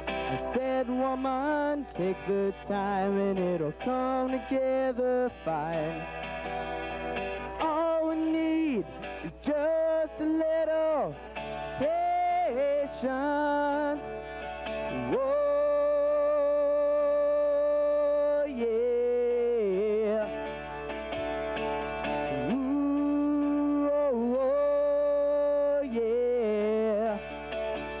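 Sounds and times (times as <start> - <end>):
man singing wordless held notes: 0.0 - 6.1, 7.6 - 14.3, 14.9 - 20.5, 22.3 - 27.4
twelve-string acoustic guitar: 0.0 - 28.0.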